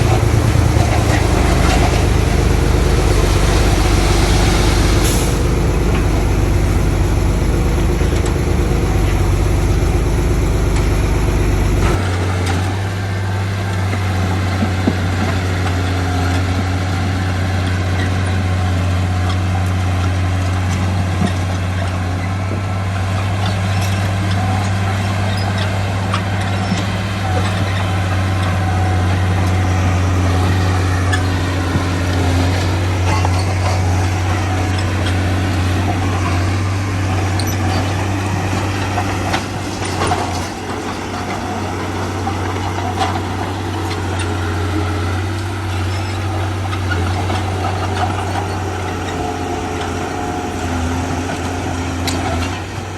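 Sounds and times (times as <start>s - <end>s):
diesel construction machinery drone: 0.0s - 52.9s.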